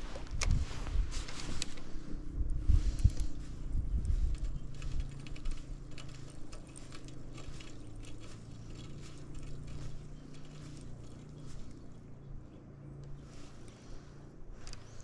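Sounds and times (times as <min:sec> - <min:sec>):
low steady hum: 0:00.0 - 0:15.0
wind rumbling on microphone: 0:00.0 - 0:15.0.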